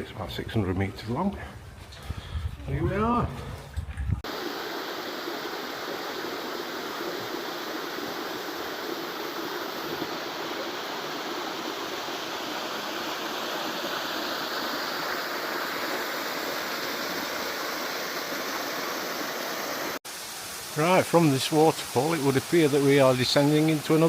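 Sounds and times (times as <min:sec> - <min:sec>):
waterfall rushing: 0:04.2 - 0:24.0.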